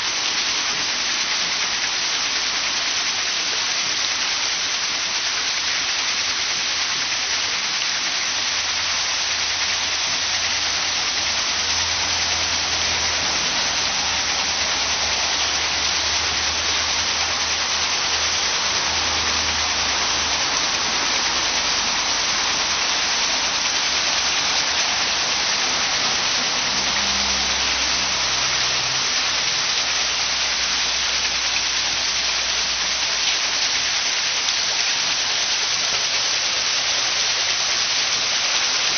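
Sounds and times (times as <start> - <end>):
water splashing off waterwheel: 0.0 - 38.9.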